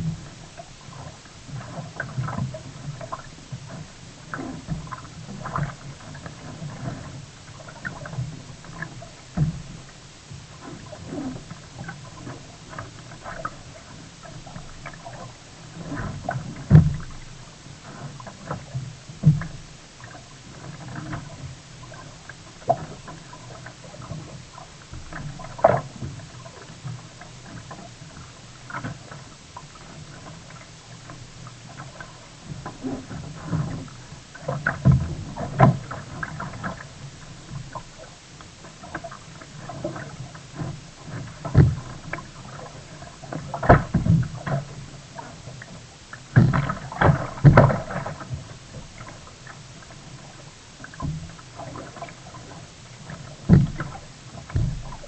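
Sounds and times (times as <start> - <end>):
paddle splashes and hull knocks: 0.0 - 55.0.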